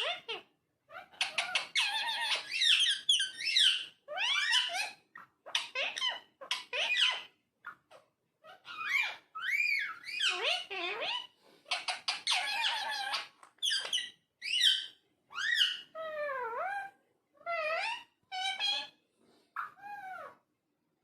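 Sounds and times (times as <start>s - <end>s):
parakeet calling and chattering: 0.0s - 20.5s.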